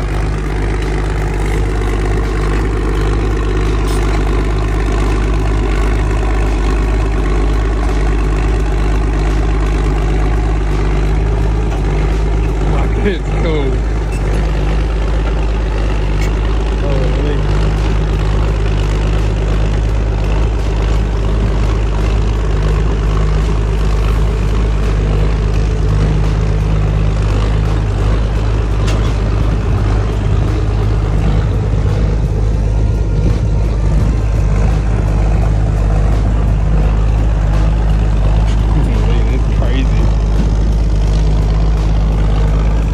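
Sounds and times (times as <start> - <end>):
heavy engine droning: 0.0 - 42.9.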